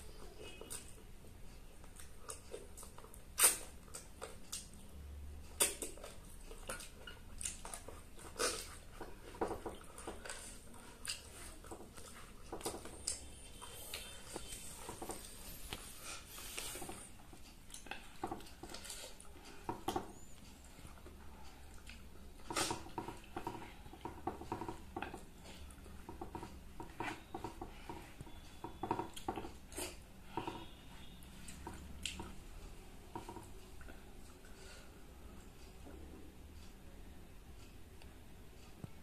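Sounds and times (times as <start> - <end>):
wet chewing and lip-smacking: 0.1 - 32.5.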